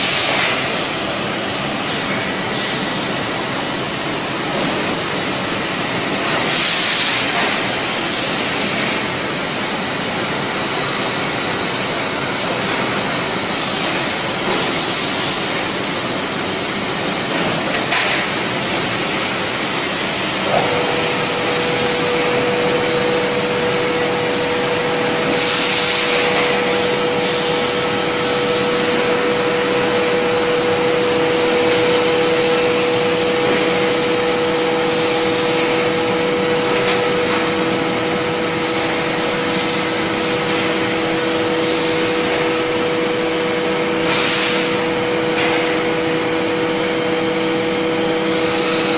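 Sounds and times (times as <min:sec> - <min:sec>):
factory machinery running: 0:00.0 - 0:48.9
steady machine whine: 0:00.0 - 0:48.9.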